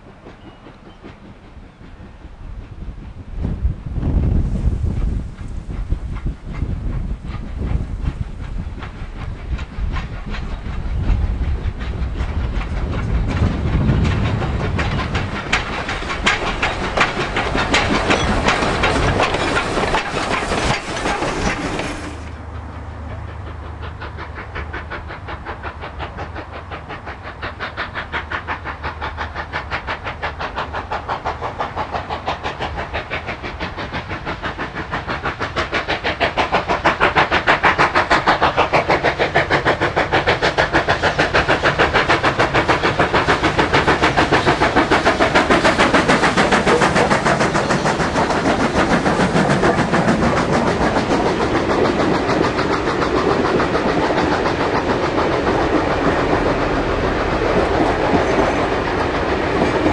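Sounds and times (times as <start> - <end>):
steam hissing: 0.0 - 59.9
steam locomotive exhaust beats: 0.0 - 59.9.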